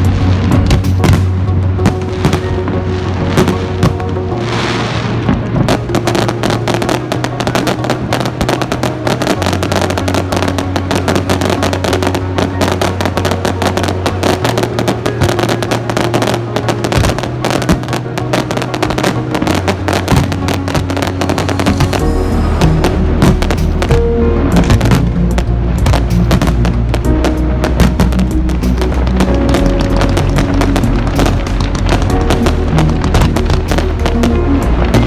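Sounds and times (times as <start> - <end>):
background music with bass: 0.0 - 35.0
fireworks cracking and banging: 0.0 - 35.0.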